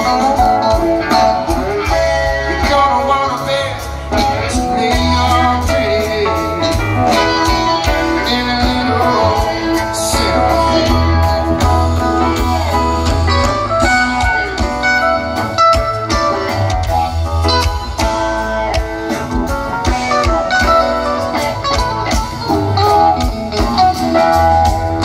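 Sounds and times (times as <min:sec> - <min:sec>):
electric guitar: 0:00.0 - 0:25.0
live rock band: 0:00.0 - 0:25.0.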